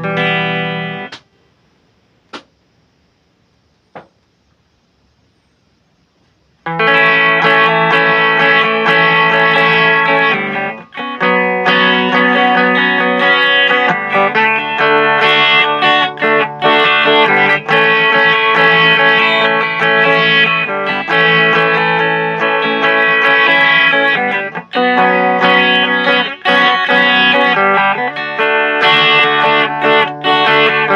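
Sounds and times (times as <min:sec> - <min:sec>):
electric guitar chords: 0:00.0 - 0:01.2, 0:06.6 - 0:30.9.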